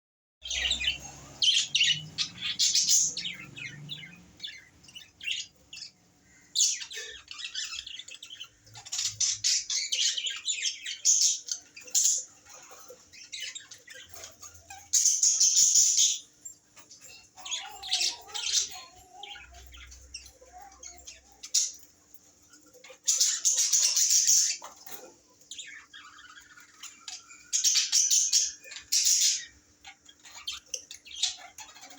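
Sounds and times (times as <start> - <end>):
parrots chirping and squawking: 0.4 - 31.9.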